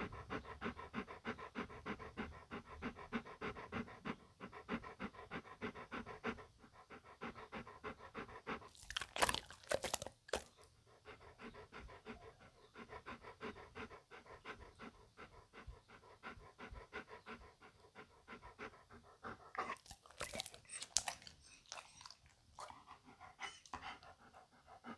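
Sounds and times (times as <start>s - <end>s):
dog panting: 0.0s - 24.9s.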